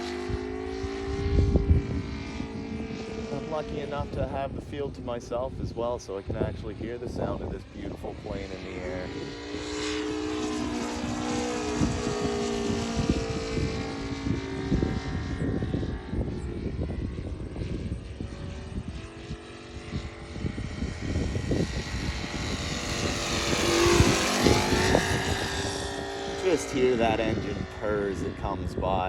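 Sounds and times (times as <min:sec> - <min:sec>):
model plane engine purring: 0:00.0 - 0:29.0.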